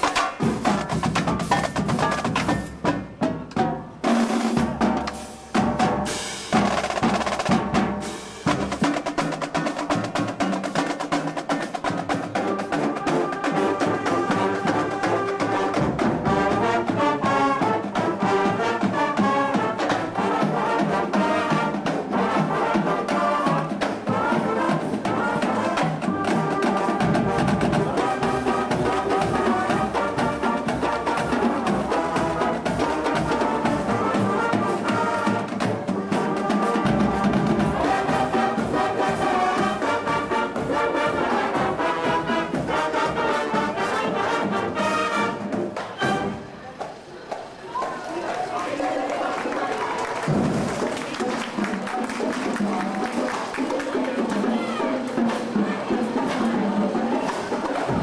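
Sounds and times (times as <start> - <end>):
brass marching band playing: 0.0 - 58.0.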